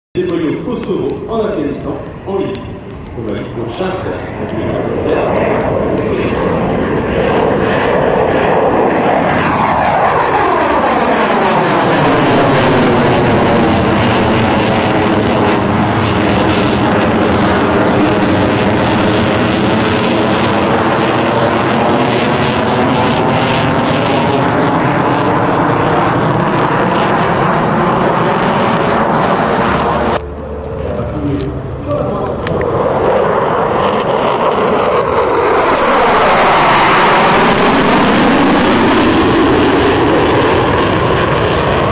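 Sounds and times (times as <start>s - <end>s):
fighter jet passing: 0.2s - 41.9s.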